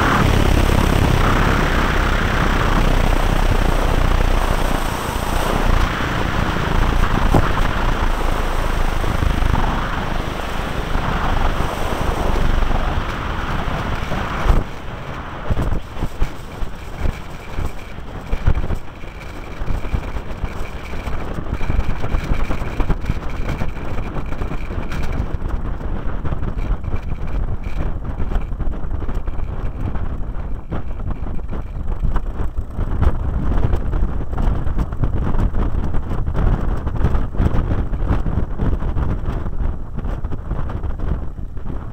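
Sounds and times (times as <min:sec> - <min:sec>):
propeller plane engine running: 0:00.0 - 0:41.9
wind buffeting microphone: 0:00.0 - 0:41.9.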